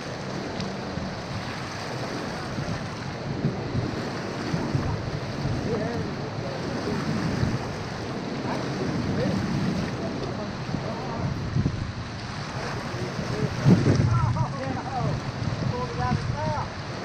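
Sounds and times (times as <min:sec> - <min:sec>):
water pouring from spillway: 0:00.0 - 0:17.0
wind buffeting microphone: 0:00.0 - 0:17.0.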